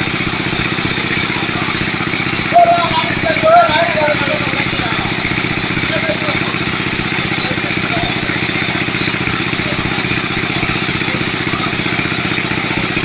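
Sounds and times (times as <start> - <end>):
water pump engine running: 0.0 - 13.0.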